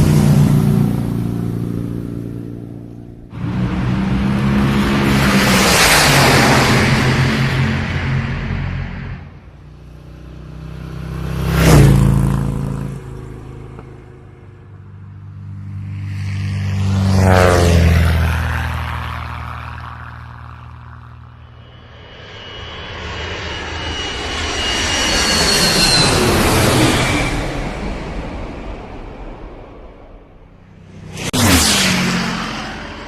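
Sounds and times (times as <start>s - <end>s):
aircraft flying past: 0.0s - 33.0s
aircraft high whine: 0.0s - 33.0s.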